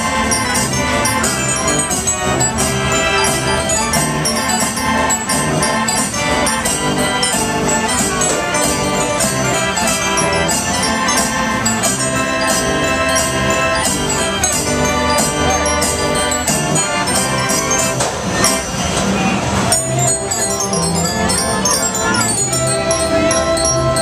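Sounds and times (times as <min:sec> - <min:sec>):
band organ pipe notes: 0:00.0 - 0:19.0, 0:19.7 - 0:24.0
drum beats: 0:00.0 - 0:24.0.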